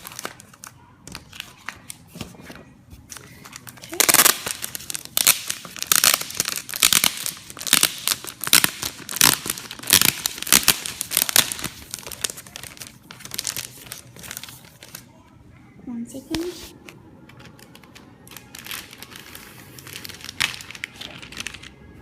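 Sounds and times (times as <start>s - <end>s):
packaging wrap crinkling and tearing: 0.0s - 2.0s, 3.1s - 15.1s, 17.3s - 21.8s.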